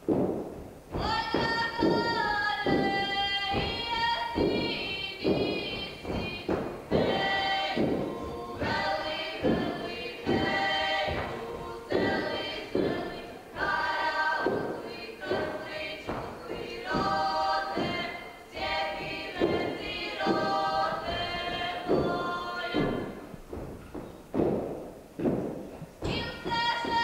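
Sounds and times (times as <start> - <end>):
feet stamping on wooden stage: 0.0 - 27.0
women singing folk song: 0.9 - 24.6, 26.0 - 27.0.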